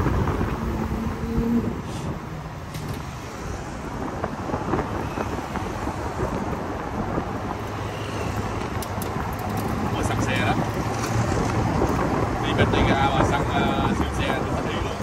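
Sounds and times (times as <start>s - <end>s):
car road and engine rumble: 0.0s - 15.0s
wind on microphone: 0.0s - 15.0s.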